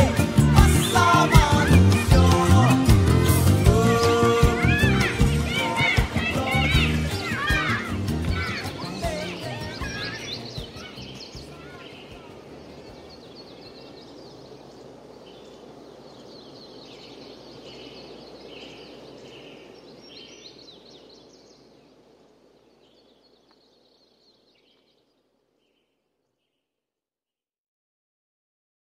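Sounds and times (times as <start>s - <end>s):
birds chirping: 0.0s - 26.6s.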